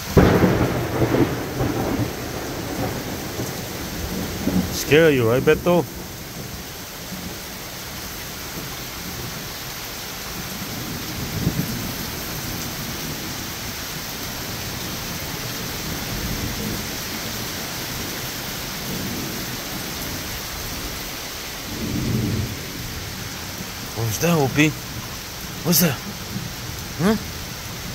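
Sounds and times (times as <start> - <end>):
heavy rain on pavement and wood: 0.0 - 27.9
low thunder rumbles: 0.1 - 7.5, 10.4 - 27.9.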